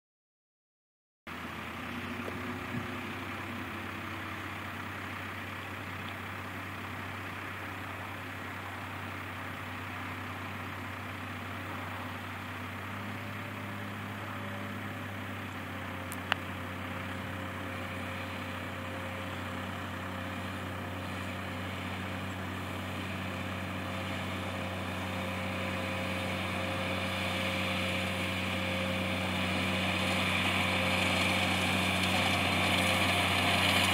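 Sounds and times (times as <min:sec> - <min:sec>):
tractor engine running: 0:01.3 - 0:33.9.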